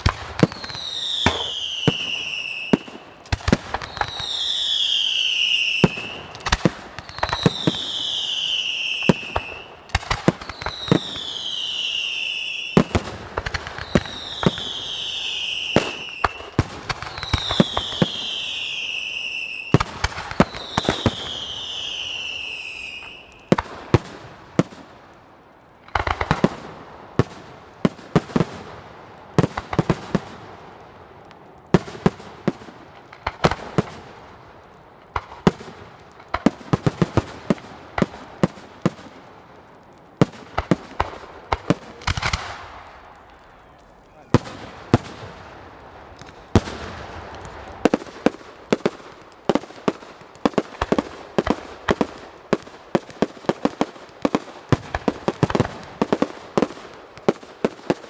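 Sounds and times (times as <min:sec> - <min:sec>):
whistling fireworks: 0:00.0 - 0:25.0, 0:25.8 - 0:58.0
fireworks banging and crackling: 0:00.0 - 0:58.0.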